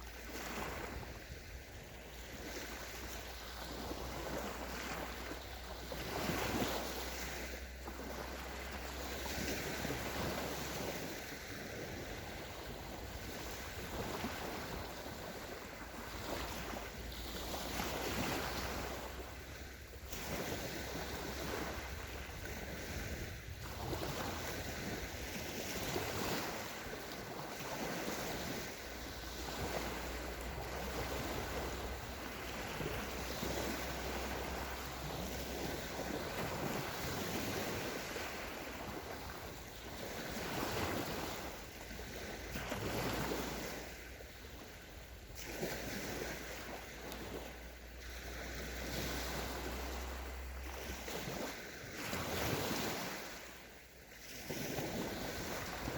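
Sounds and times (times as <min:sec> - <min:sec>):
waves washing onto sandy shore: 0:00.0 - 0:55.9.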